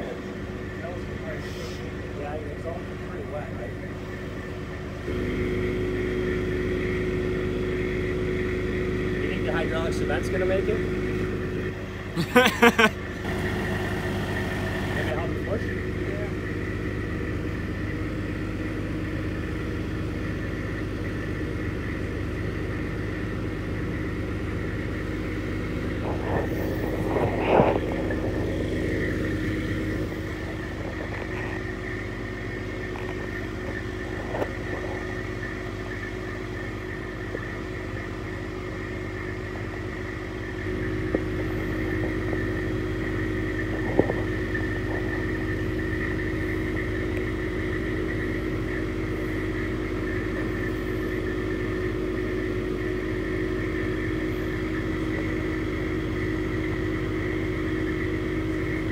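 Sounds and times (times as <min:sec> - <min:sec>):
diesel engine running: 0:00.0 - 0:58.9
hydraulic whine: 0:00.0 - 0:58.9.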